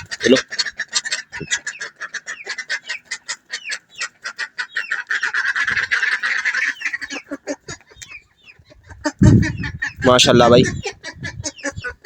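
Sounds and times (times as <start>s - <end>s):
flock of fowl calling: 0.0s - 12.0s.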